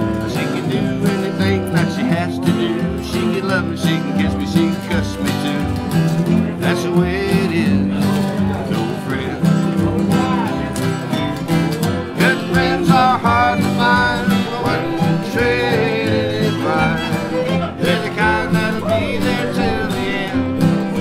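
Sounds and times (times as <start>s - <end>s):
acoustic guitars strumming: 0.0s - 21.0s
fiddle: 0.0s - 21.0s
lap resonator guitar: 0.0s - 21.0s.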